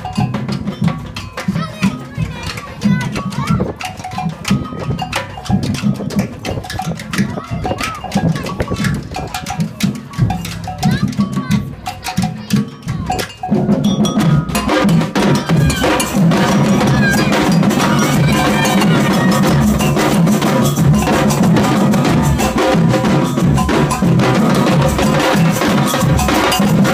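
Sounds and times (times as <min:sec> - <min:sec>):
clanking bell: 0:00.0 - 0:02.1, 0:03.2 - 0:26.9
samba percussion band: 0:00.0 - 0:26.9.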